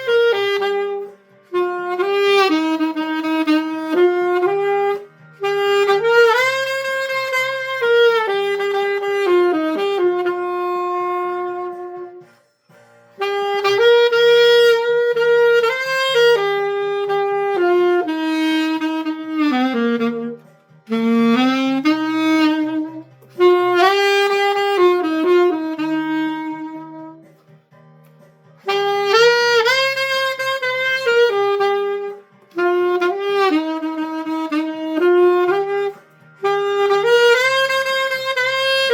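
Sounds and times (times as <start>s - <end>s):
alto saxophone playing slow melody: 0.0s - 12.3s, 13.2s - 27.4s, 28.6s - 38.9s.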